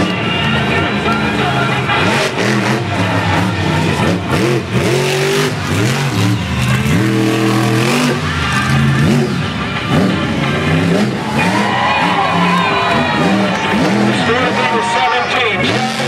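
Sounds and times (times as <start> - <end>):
truck engine revving hard: 0.0 - 16.0.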